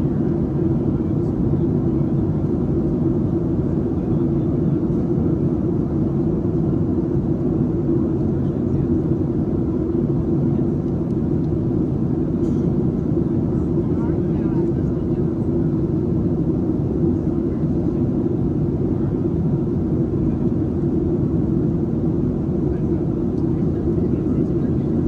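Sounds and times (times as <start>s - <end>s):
airplane cabin drone: 0.0s - 25.0s.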